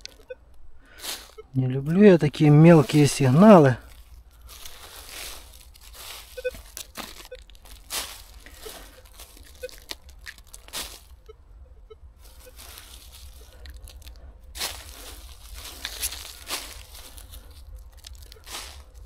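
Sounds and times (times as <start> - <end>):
hand rustling through dry leaves: 1.0 - 11.3, 12.2 - 19.0.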